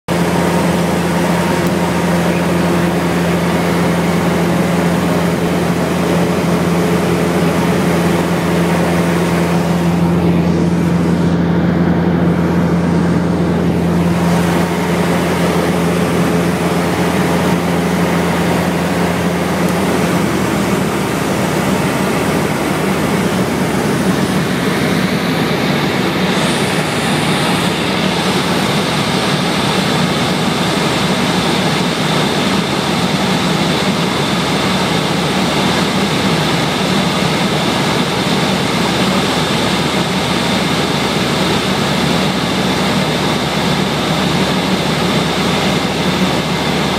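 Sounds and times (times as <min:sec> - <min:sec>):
light aircraft engine and propeller: 0:00.1 - 0:46.9.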